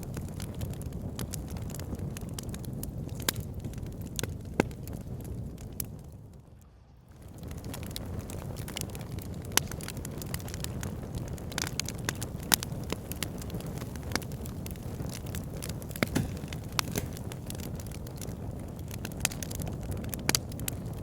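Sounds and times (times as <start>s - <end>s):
fire crackling and popping: 0.0s - 21.0s
low rumble of flame: 0.0s - 21.0s.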